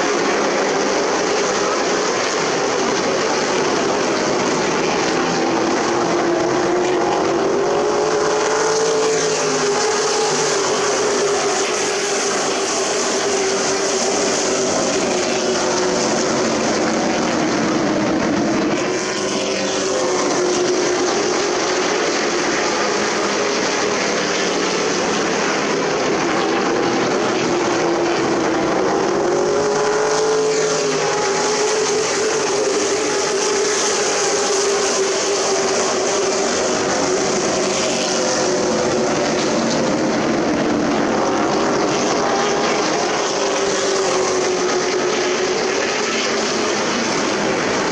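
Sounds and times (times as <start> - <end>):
race truck engines passing: 0.0 - 47.9.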